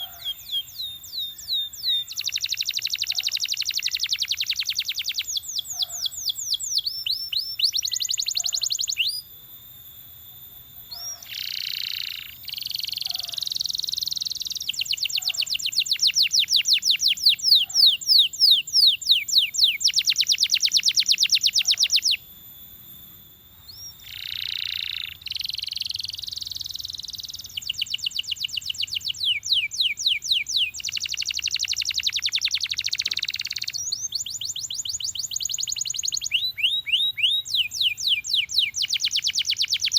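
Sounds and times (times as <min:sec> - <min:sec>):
canary singing trills: 0:00.0 - 0:09.3, 0:10.3 - 0:39.9.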